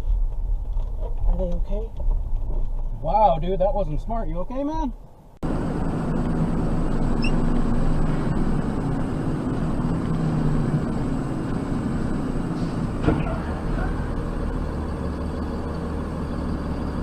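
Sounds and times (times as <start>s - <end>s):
car engine drone: 0.0s - 17.0s
road noise: 0.0s - 17.0s.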